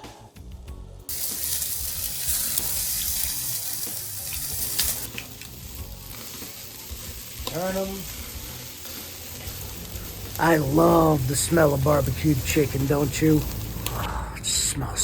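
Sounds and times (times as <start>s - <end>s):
chicken sizzling on grill: 1.0s - 15.0s.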